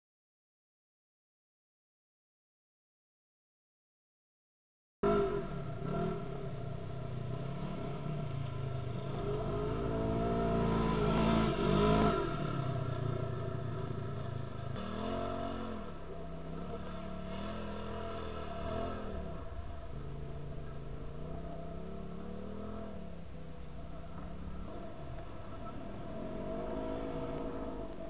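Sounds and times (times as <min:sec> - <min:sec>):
vehicle engine revving: 0:05.0 - 0:28.0.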